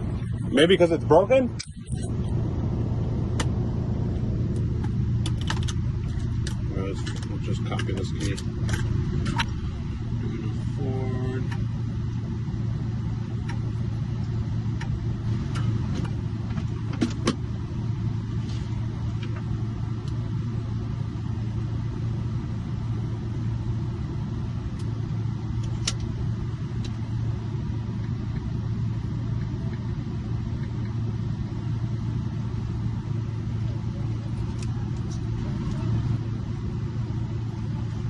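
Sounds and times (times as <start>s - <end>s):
vehicle engine idling: 0.0s - 38.0s.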